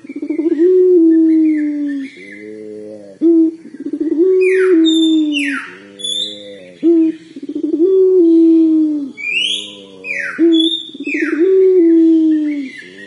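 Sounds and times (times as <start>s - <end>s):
dove long cooing call: 0.0s - 13.0s.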